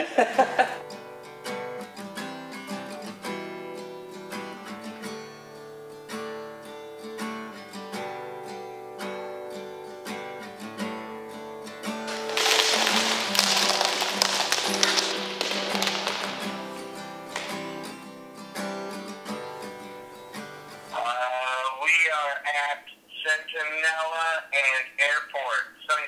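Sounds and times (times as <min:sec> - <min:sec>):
acoustic guitar picked melody: 0:00.0 - 0:21.4.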